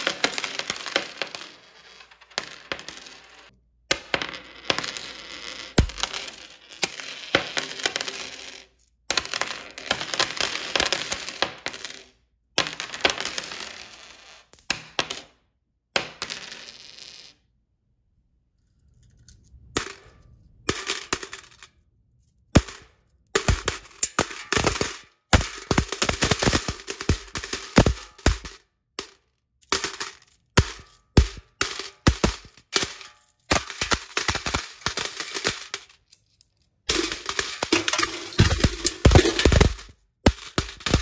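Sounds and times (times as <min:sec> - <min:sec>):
coins clinking on wooden table: 0:00.0 - 0:15.4, 0:16.0 - 0:17.4, 0:19.0 - 0:41.0.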